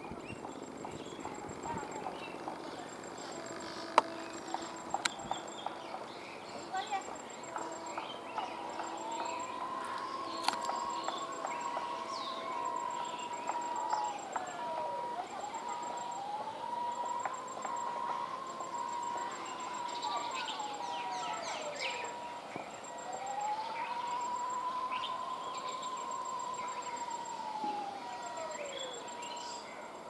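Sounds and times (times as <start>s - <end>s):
birds chirping: 0.0s - 30.0s
siren wailing: 0.0s - 30.0s.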